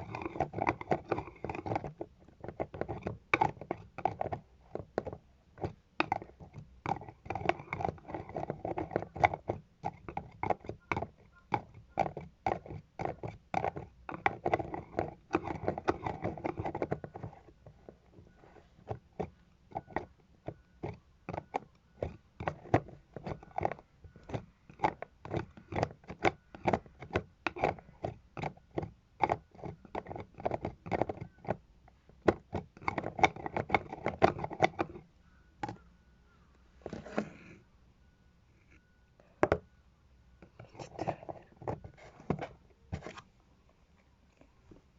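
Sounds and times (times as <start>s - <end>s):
lids scraping and rubbing: 0.0s - 35.9s, 36.7s - 37.7s, 40.4s - 43.4s.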